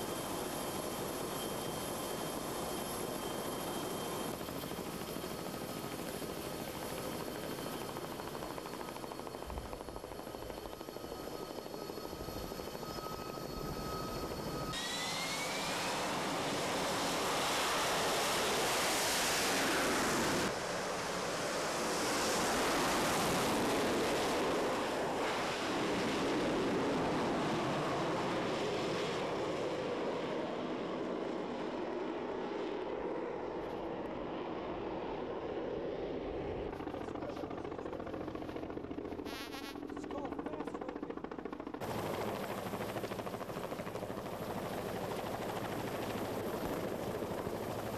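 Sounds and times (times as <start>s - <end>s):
aircraft turbine engines whining: 0.0s - 47.9s.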